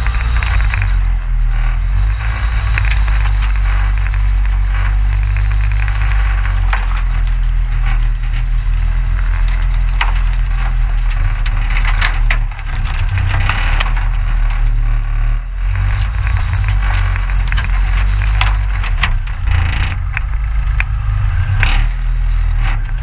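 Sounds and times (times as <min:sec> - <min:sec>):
boat motor running: 0:00.0 - 0:23.0
branches snapping and scraping hull: 0:00.0 - 0:23.0.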